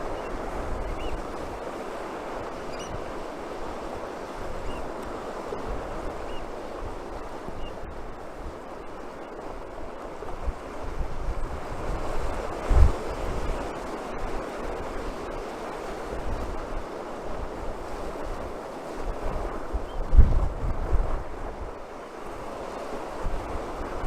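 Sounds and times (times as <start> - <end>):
surf breaking on shore: 0.0 - 24.0
wind buffeting microphone: 0.0 - 24.0.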